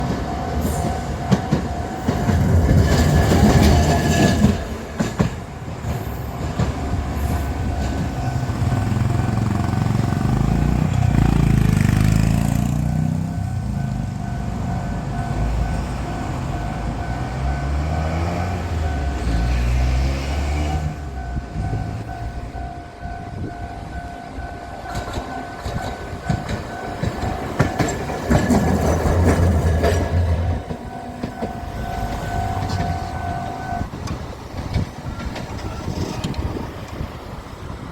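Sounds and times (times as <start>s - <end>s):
crossing warning bell ringing: 0.0s - 5.5s, 6.1s - 36.6s
low rumble of passing tram: 0.0s - 37.9s
tram wheels clacking over rails: 0.0s - 37.9s.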